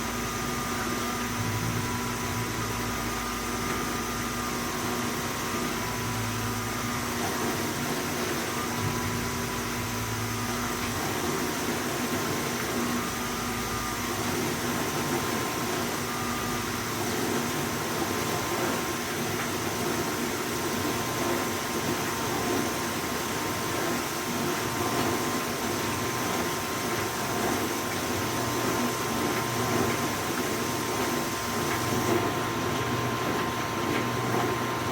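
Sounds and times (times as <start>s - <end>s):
dishwasher whirring: 0.0s - 34.9s.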